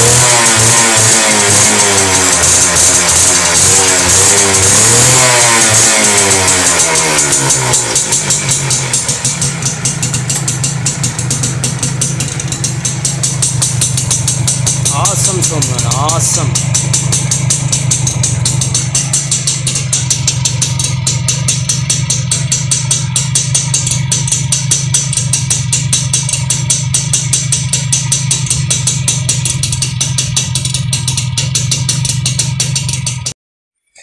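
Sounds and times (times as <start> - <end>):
two-stroke engine idling: 0.0 - 33.4.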